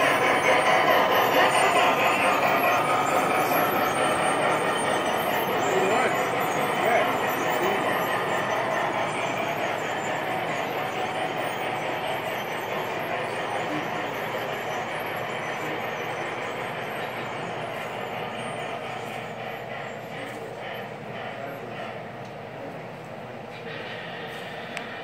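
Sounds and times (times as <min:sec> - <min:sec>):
model train rumbling on track: 0:00.0 - 0:25.0.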